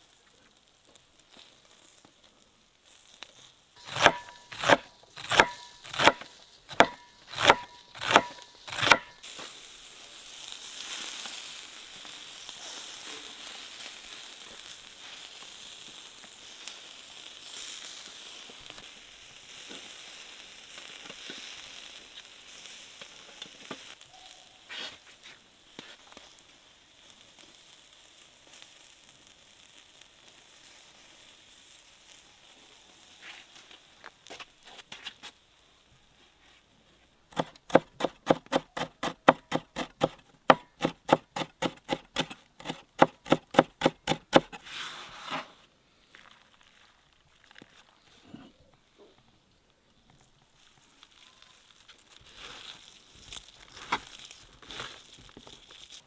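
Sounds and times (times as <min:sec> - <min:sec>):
food sizzling over fire: 0:00.0 - 0:48.2, 0:49.3 - 0:56.0.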